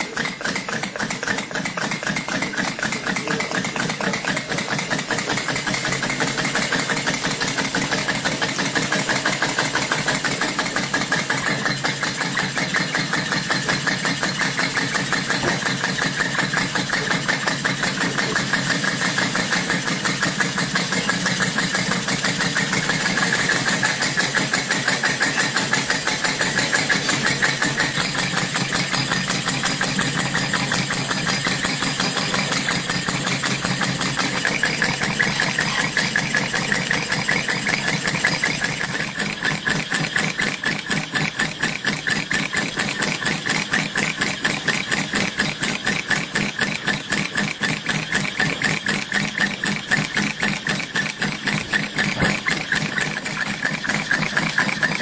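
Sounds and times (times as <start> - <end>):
model steam engine running: 0.0 - 55.0.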